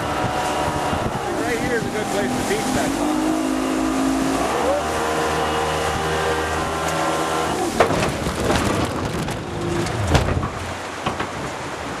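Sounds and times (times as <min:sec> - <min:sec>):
boat engine hum: 0:00.0 - 0:12.0
rushing water: 0:00.0 - 0:12.0.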